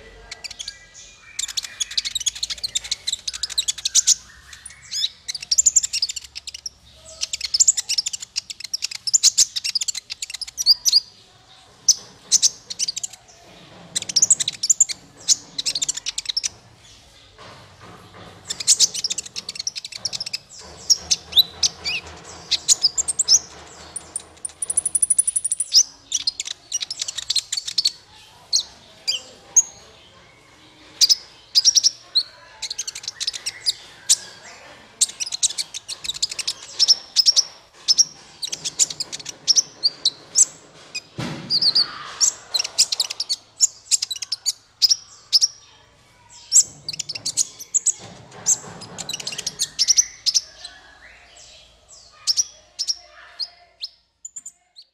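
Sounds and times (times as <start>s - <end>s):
bird chirping and trilling: 0.0s - 11.2s, 18.4s - 30.1s, 30.8s - 54.9s.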